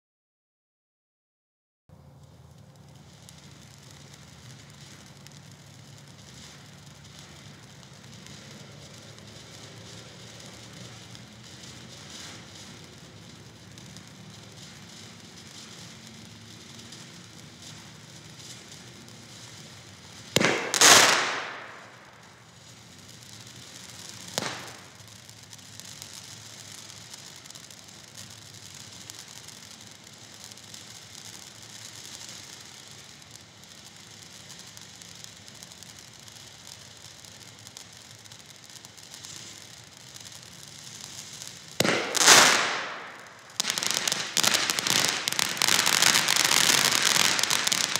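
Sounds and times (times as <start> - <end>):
firework fountain hissing and crackling: 1.9 - 47.9.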